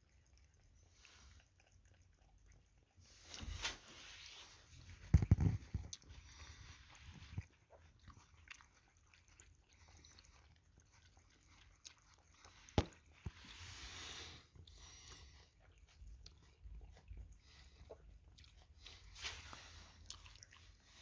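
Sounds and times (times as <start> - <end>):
cat lapping water: 0.0 - 21.0.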